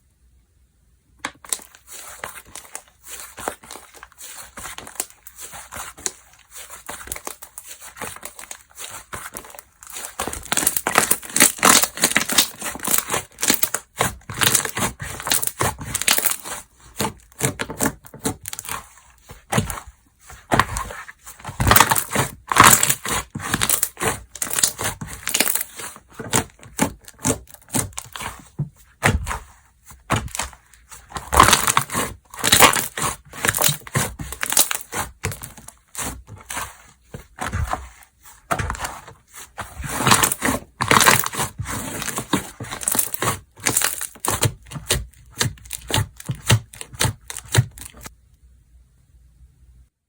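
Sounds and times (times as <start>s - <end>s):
slime squelching and crackling: 1.3s - 48.1s.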